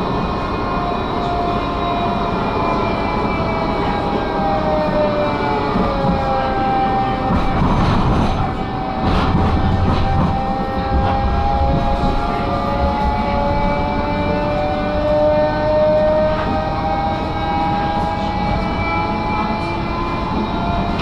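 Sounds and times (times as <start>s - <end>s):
tram motor whine: 0.0s - 21.0s
wheels rumbling on rails: 0.0s - 21.0s.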